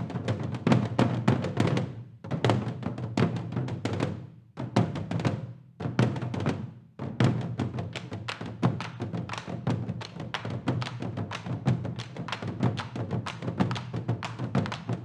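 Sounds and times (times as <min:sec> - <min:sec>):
percussion ensemble drumming: 0:00.0 - 0:15.0.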